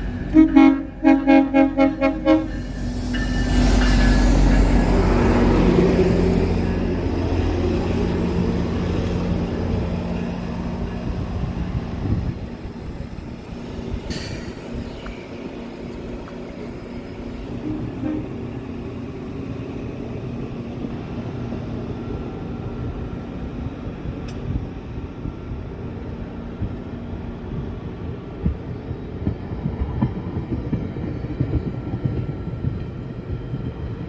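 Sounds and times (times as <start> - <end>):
diesel locomotive engine drone: 0.0 - 34.0
rumble of rolling train cars: 0.0 - 34.0.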